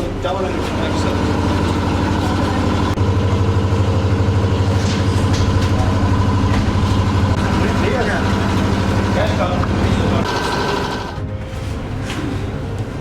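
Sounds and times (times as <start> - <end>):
engine idling: 0.0 - 11.2.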